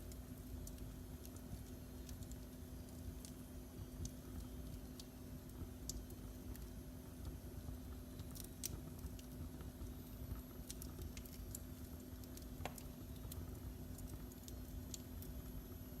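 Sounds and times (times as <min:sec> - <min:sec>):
faint steady hum: 0:00.0 - 0:16.0
fire crackling and popping: 0:00.0 - 0:16.0
low fire rumble: 0:00.0 - 0:16.0.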